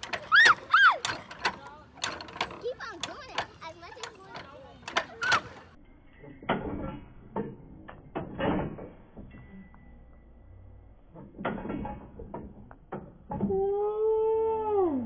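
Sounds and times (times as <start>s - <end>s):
seesaw clunking and creaking: 0.0s - 13.8s.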